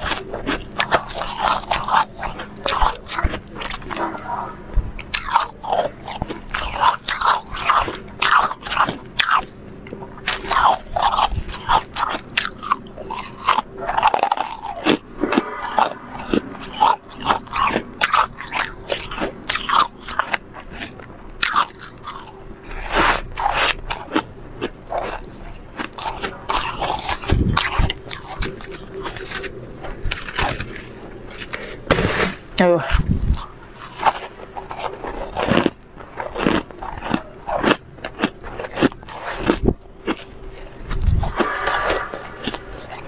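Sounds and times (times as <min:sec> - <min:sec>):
frost being chewed: 0:00.0 - 0:04.3, 0:05.0 - 0:43.0.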